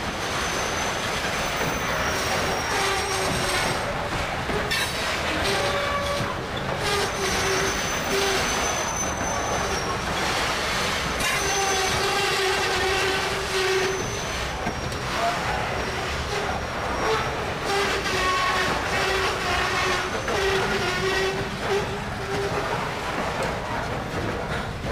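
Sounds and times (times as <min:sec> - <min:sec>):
train wheels rumbling on rail: 0:00.0 - 0:24.9
wheels squealing: 0:00.1 - 0:23.4.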